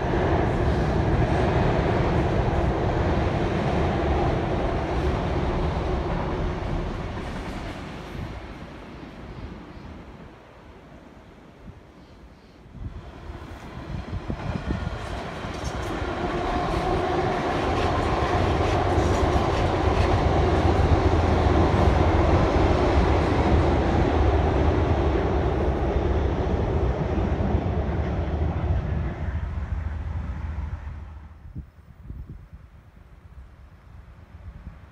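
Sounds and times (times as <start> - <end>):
train rumbling over steel bridge: 0.0 - 34.9.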